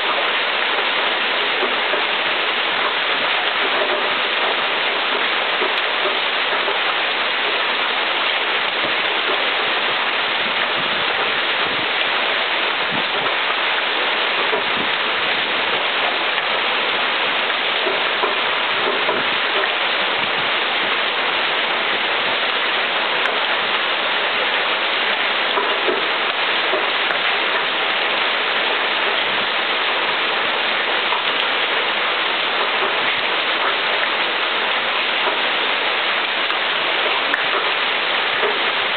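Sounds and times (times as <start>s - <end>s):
hail and heavy rain pelting: 0.0s - 38.9s.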